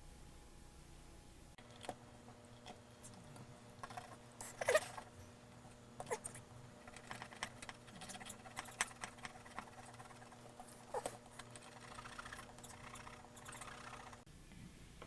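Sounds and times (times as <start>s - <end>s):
hacksaw cutting rubber: 1.6s - 14.2s.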